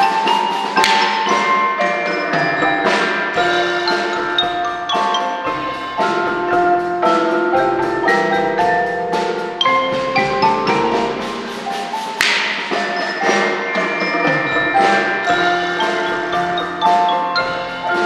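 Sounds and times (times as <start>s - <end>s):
mallet percussion ensemble playing: 0.0s - 18.0s.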